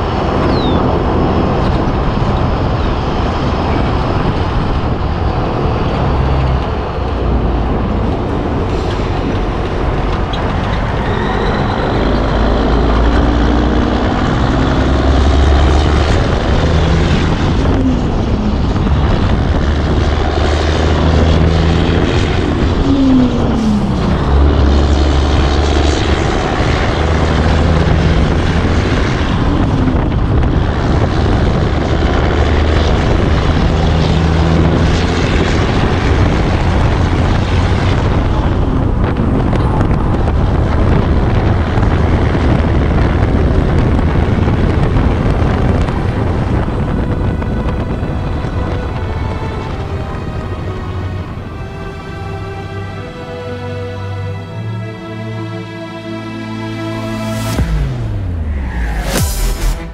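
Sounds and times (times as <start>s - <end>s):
diesel engine drone: 0.0s - 59.9s
road rumble: 0.0s - 59.9s
wind buffeting: 0.0s - 59.9s.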